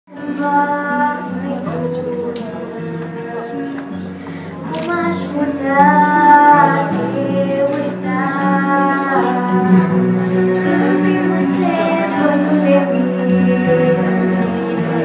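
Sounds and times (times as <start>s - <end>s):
girl singing into microphone: 0.1s - 15.0s
instrumental backing music: 0.1s - 15.0s.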